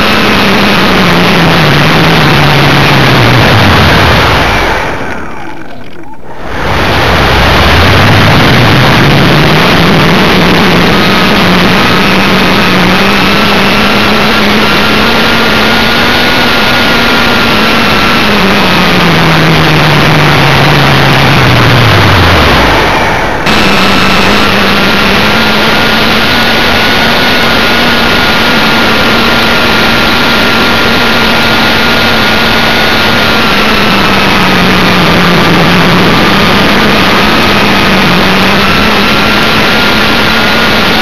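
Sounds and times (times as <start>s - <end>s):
heavy wind rush: 0.0s - 41.0s
model plane motor and propeller: 0.0s - 41.0s.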